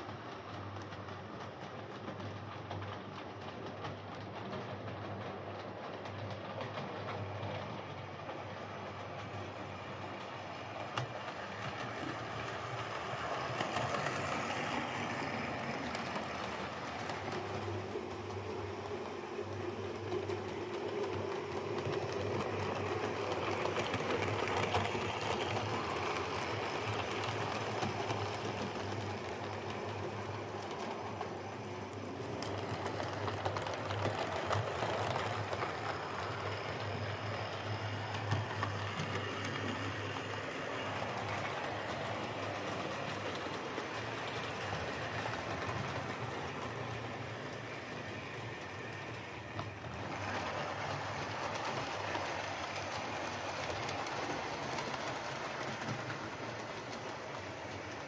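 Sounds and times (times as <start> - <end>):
model train motor humming: 10.4 - 58.0.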